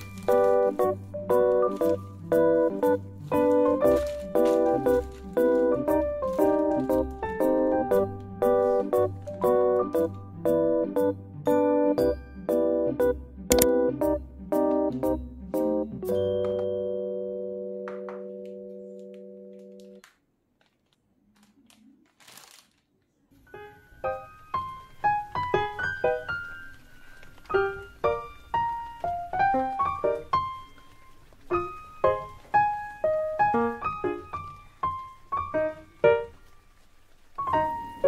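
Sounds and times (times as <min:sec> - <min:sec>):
light piano melody: 0:00.0 - 0:20.0, 0:23.3 - 0:38.0.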